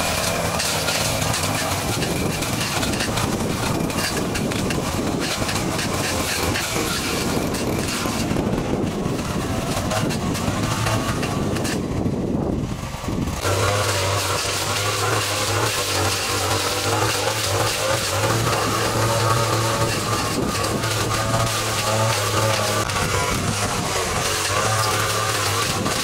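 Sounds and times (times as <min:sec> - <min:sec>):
small petrol engine running: 0:00.0 - 0:26.0.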